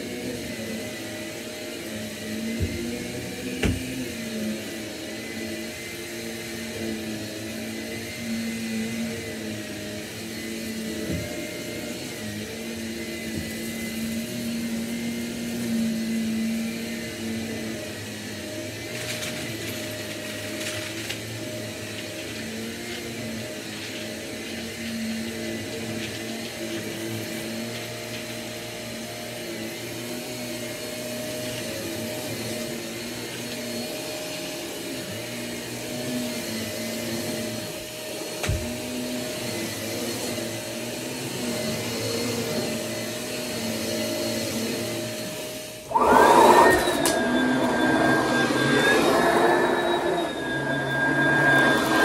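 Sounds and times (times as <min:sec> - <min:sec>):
vacuum cleaner running on carpet: 0:00.0 - 0:52.0.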